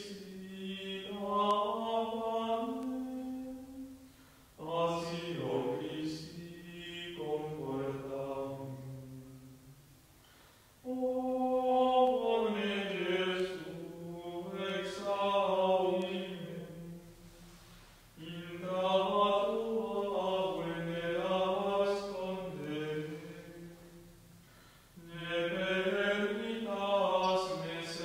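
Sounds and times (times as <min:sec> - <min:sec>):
person singing slow chant: 0:00.0 - 0:28.0.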